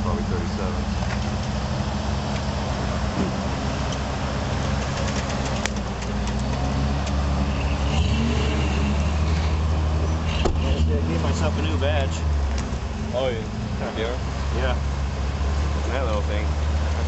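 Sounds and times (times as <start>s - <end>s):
truck engine running at low speed: 0.0s - 17.0s.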